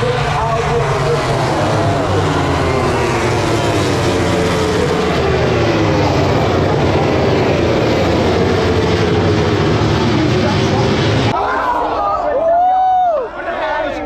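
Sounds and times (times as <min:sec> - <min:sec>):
racing motorcycles passing: 0:00.0 - 0:11.4.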